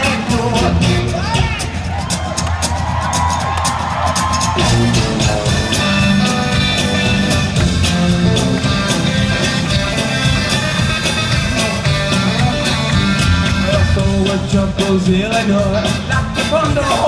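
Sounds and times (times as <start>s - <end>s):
rock band playing: 0.0s - 17.0s
steady drum beat: 0.0s - 17.0s.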